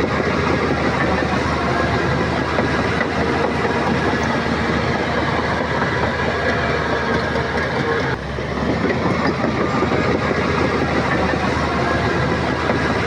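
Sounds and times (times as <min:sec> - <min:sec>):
bulldozer engine and tracks: 0:00.0 - 0:13.0.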